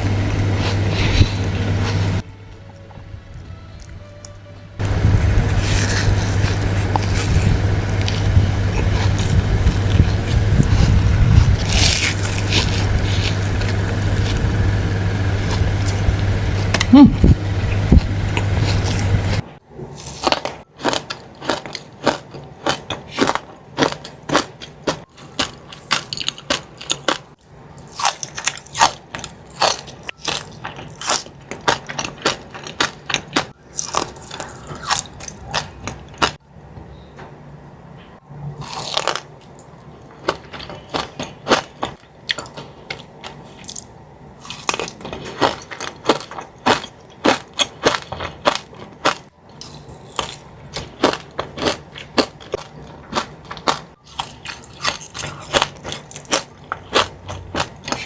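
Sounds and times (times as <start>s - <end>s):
crunching and chewing cookie: 0.0s - 36.4s, 38.5s - 58.0s.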